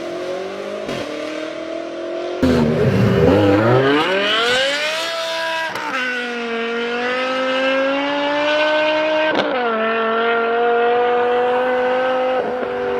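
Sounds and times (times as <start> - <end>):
car engine accelerating hard: 0.0 - 12.9.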